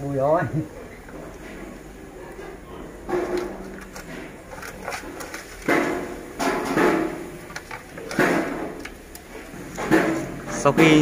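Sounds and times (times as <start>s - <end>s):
rubbing and handling noise: 1.3s - 11.0s.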